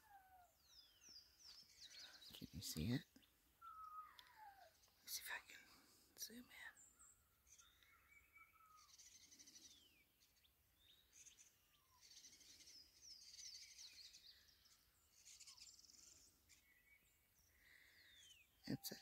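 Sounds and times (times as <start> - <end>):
faint songbirds chirping: 0.0 - 19.0.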